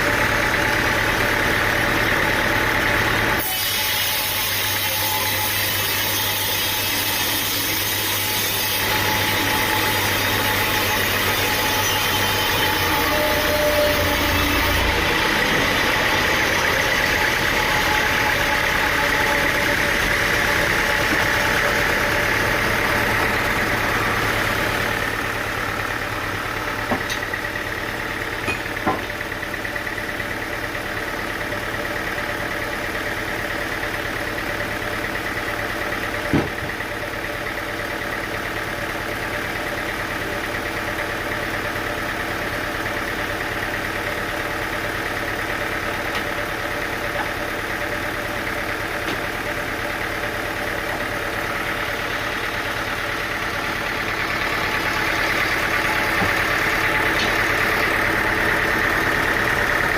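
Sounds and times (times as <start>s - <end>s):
engine running steadily: 0.0s - 3.6s, 4.3s - 59.9s.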